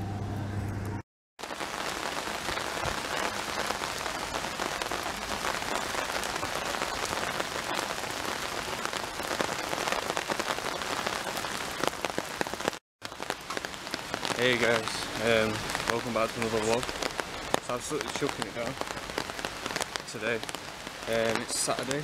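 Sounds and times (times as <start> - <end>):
heavy rain on an umbrella: 1.4 - 22.0.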